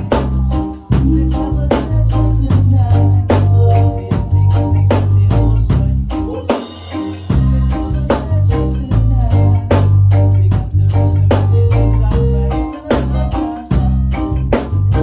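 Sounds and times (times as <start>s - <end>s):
heavy bass line: 0.0s - 6.3s, 7.3s - 15.0s
drum kit hits: 0.0s - 12.4s
live reggae band playing: 0.0s - 15.0s.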